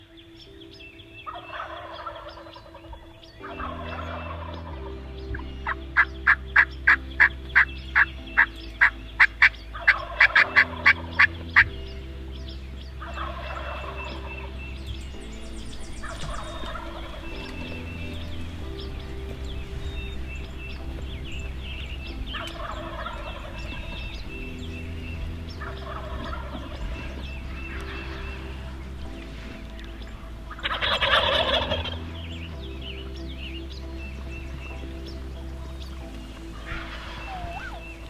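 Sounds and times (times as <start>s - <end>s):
background music with held chords: 0.0s - 38.0s
turkey gobbling: 1.3s - 4.8s, 5.6s - 11.7s, 13.0s - 14.6s, 16.0s - 32.5s, 34.1s - 38.0s.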